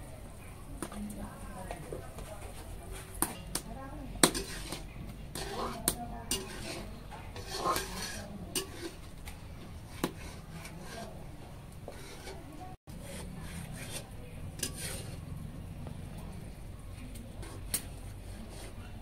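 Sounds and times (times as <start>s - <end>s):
metal spatula scraping a wok: 2.4s - 16.2s, 17.1s - 19.0s.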